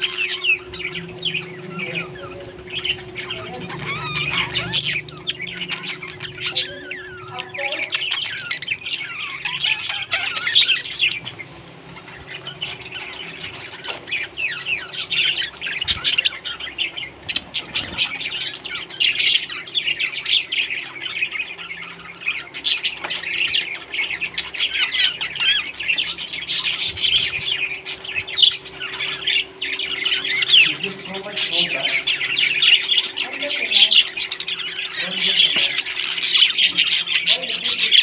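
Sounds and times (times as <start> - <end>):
faint steady hum: 0.0 - 38.0
parrots chirping and chattering: 0.0 - 38.0.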